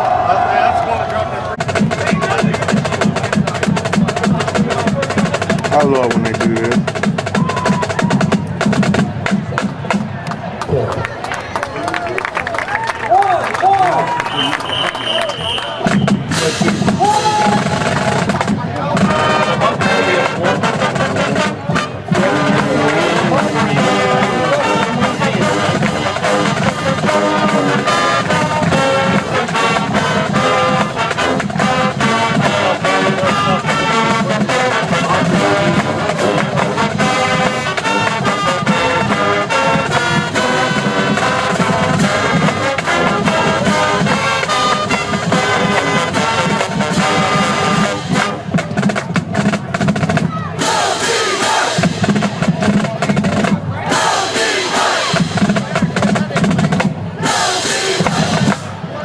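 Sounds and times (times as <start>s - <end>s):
marching band playing: 0.0s - 59.0s.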